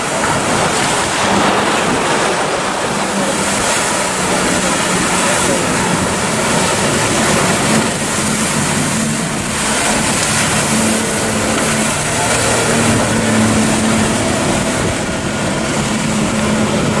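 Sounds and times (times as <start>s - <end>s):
boat engine humming: 0.0s - 17.0s
rushing water noise: 0.0s - 17.0s.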